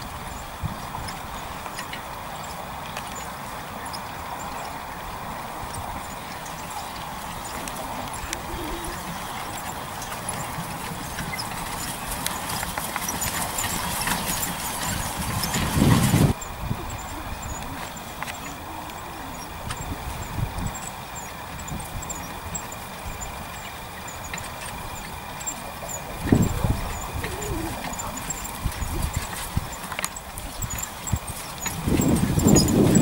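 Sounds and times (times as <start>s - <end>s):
horse hoofbeats on grass: 0.5s - 33.0s
carriage and harness rattling: 5.6s - 33.0s.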